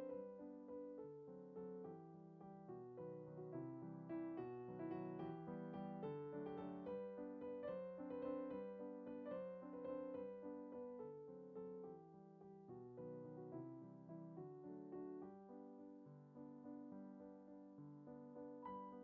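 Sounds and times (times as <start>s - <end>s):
soft piano melody: 0.0s - 19.0s.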